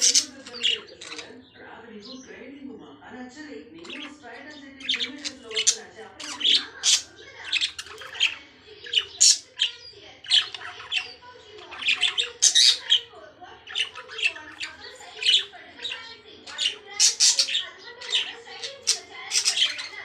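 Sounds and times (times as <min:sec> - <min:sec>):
love birds squawking and chattering: 0:00.0 - 0:20.0.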